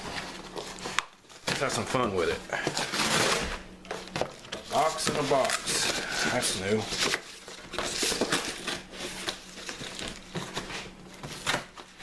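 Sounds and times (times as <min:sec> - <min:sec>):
cardboard ripping: 0:00.0 - 0:12.0.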